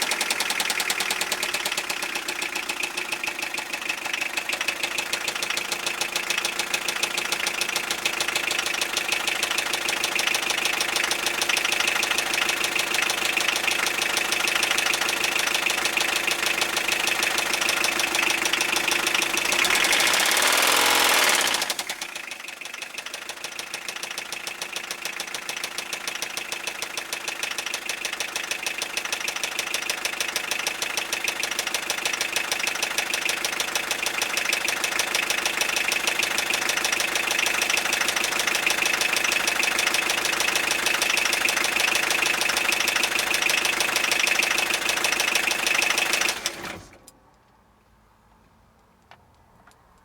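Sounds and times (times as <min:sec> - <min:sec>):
diesel engine knocking: 0:00.0 - 0:46.9.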